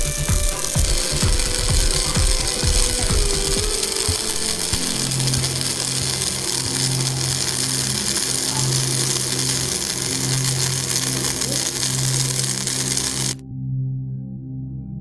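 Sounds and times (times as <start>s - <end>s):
low steady hum: 0.0s - 13.4s
welding arc hissing and crackling: 0.0s - 13.4s.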